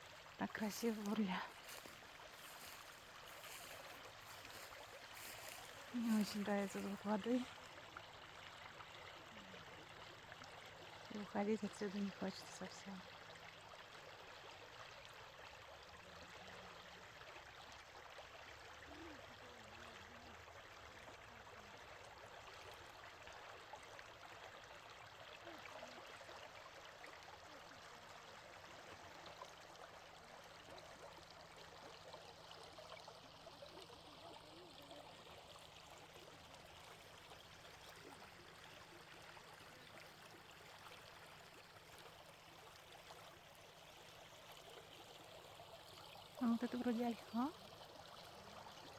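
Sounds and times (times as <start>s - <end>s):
small stream babbling: 0.0s - 48.9s.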